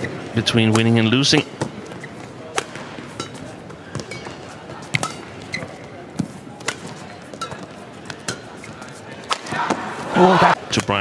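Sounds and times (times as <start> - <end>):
shoes squeaking on court: 0.0 - 10.0
racket hitting shuttlecock: 0.7 - 9.9.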